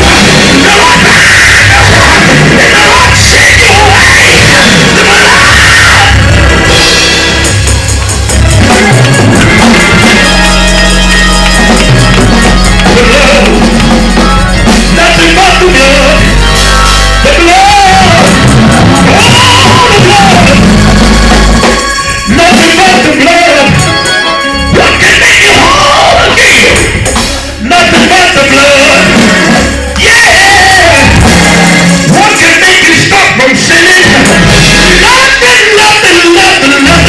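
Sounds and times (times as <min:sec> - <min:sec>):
voices singing and shouting: 0:00.0 - 0:07.0, 0:11.7 - 0:20.8, 0:21.6 - 0:37.0
drums: 0:00.0 - 0:37.0
live gospel band: 0:00.0 - 0:37.0.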